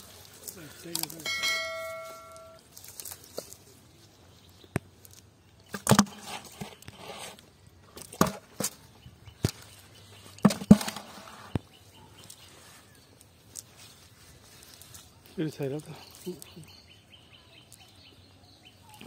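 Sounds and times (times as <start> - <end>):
rustling: 0.0 - 4.2, 5.0 - 16.7.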